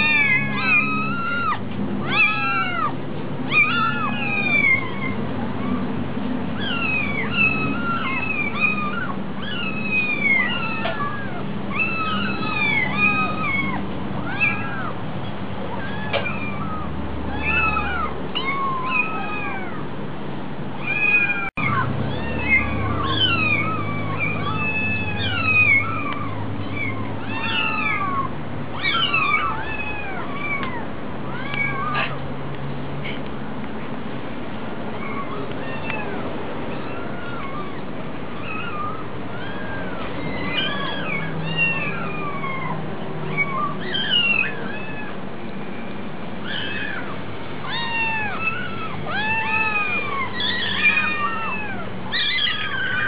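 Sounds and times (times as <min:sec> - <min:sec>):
kittens meowing: 0:00.0 - 0:20.0, 0:20.8 - 0:32.3, 0:34.9 - 0:53.0.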